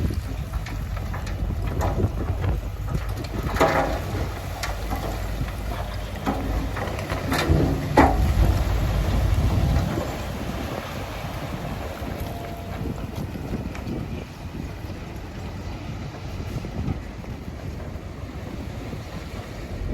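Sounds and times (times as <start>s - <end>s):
heavy diesel machinery rumbling: 0.0s - 19.9s.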